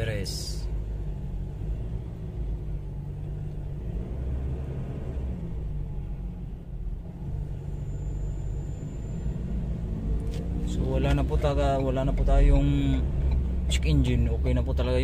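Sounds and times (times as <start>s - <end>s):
engine and road noise: 0.0s - 15.0s.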